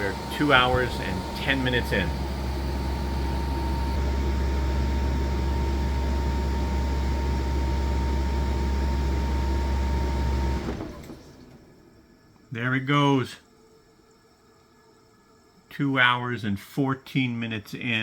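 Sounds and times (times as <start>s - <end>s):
portable air conditioner humming: 0.0s - 18.0s.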